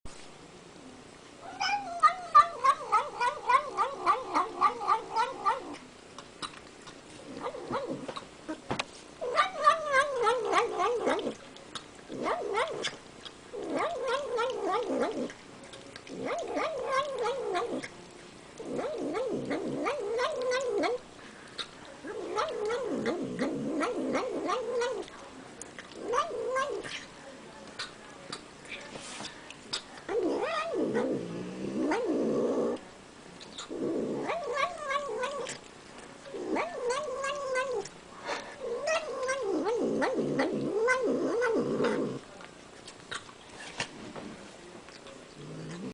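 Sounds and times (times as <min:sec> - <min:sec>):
cat mumbling while eating: 0:01.4 - 0:28.9, 0:29.6 - 0:32.9, 0:33.5 - 0:43.4, 0:44.9 - 0:45.9.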